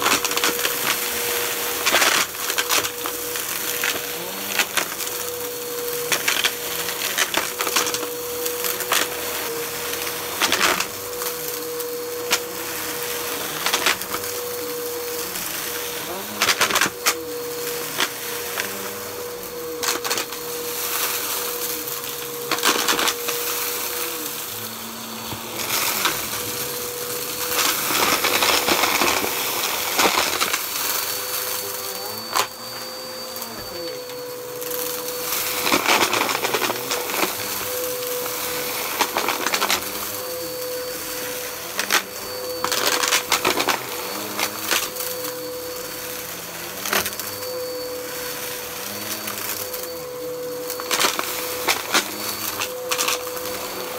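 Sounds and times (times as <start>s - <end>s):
vacuum cleaner running over carpet: 0.0s - 53.9s.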